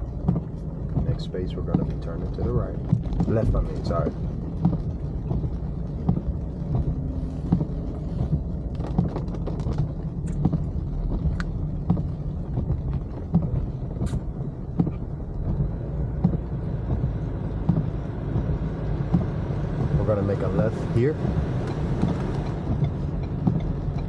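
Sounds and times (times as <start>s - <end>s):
engine and road rumble in car: 0.0s - 24.0s
light taps and clicks: 0.2s - 24.0s.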